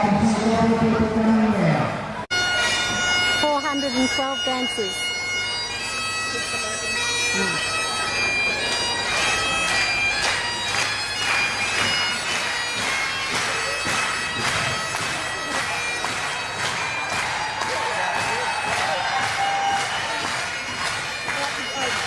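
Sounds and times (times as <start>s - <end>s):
bagpipes playing a tune: 2.3s - 22.0s
steady bagpipe drones: 2.3s - 22.0s.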